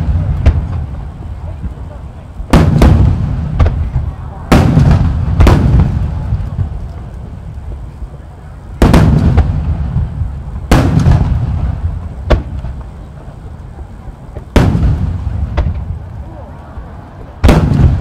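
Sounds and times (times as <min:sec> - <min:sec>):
firework shells booming: 0:00.0 - 0:07.8, 0:08.8 - 0:18.0
sharp firework cracks: 0:00.0 - 0:18.0.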